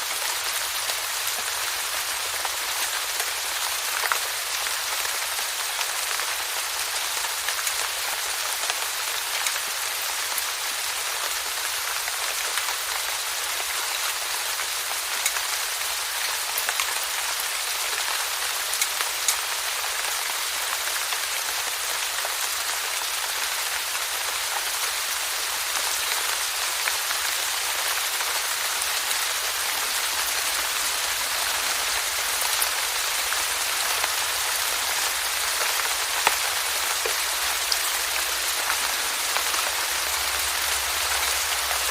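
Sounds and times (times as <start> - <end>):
steady rainfall: 0.0 - 41.9
raindrops ticking on a surface: 0.1 - 41.9.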